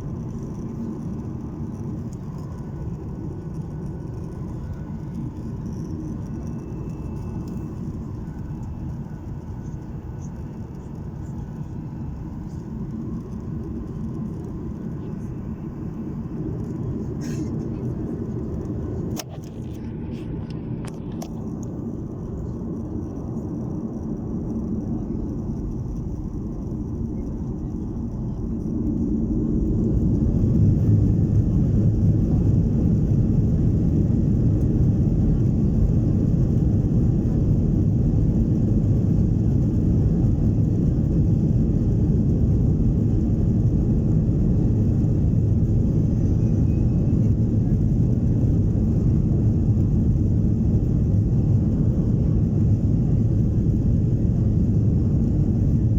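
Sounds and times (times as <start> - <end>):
airliner engine rumble in cabin: 0.0 - 55.9.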